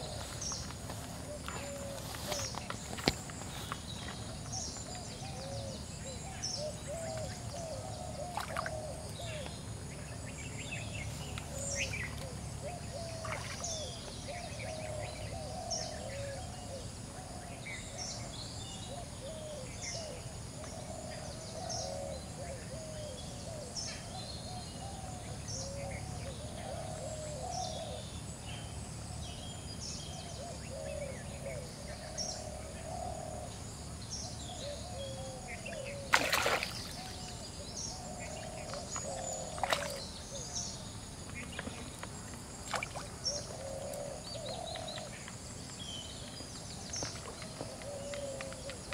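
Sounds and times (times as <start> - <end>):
low repeating bird calls: 0.0 - 48.9.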